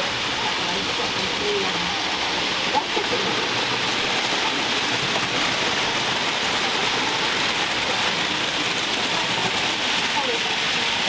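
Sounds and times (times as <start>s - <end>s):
model trains whirring on track: 0.0s - 11.0s.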